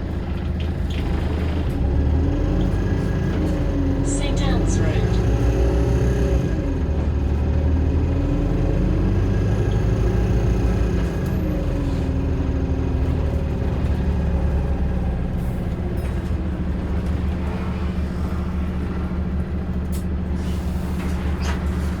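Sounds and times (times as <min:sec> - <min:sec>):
bus interior droning: 0:00.0 - 0:22.0.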